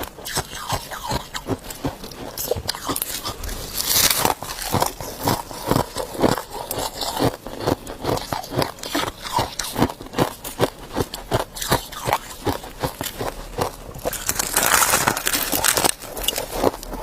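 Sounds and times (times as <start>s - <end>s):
person chewing ice: 0.0s - 17.0s.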